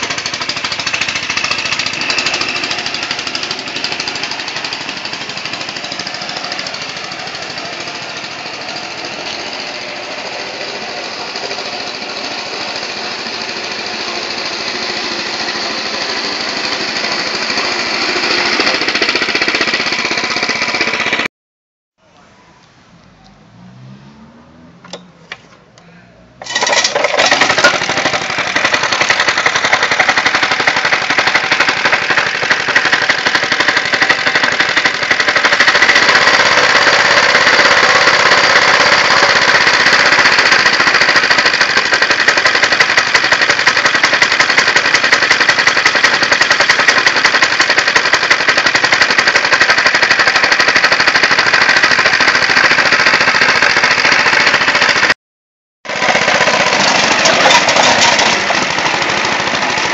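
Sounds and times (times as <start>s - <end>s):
mower engine running: 0.0s - 21.3s, 26.4s - 55.2s, 55.8s - 59.9s.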